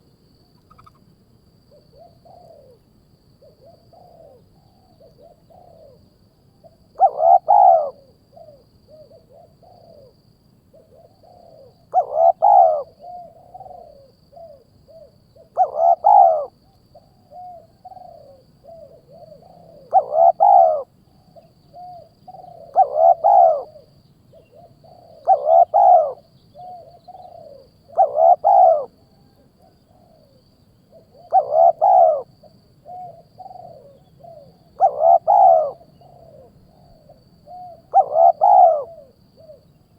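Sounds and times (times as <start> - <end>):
bird calls: 0.6 - 1.0, 6.6 - 9.8, 10.8 - 30.3, 30.9 - 39.9.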